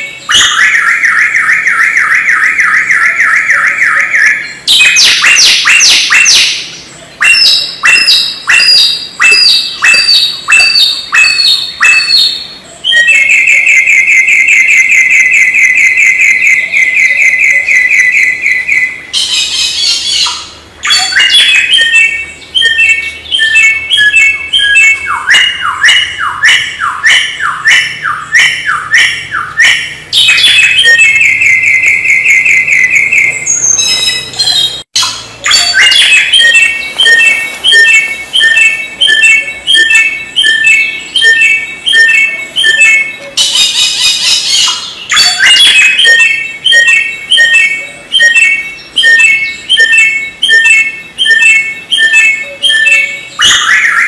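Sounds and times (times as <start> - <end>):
bird harsh chatter: 0.0 - 54.0
songbird singing trills: 0.0 - 54.0.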